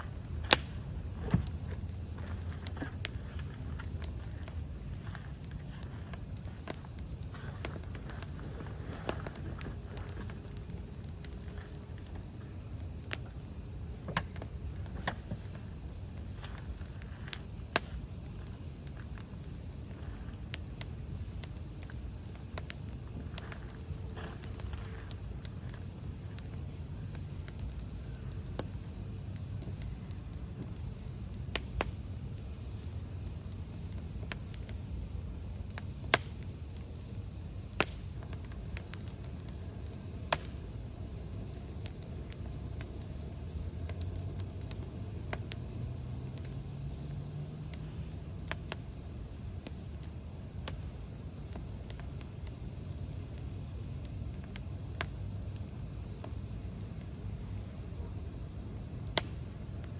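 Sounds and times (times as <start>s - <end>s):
campfire rumble: 0.0s - 59.9s
crickets chirping: 0.0s - 59.9s
firewood popping and crackling: 0.0s - 59.9s.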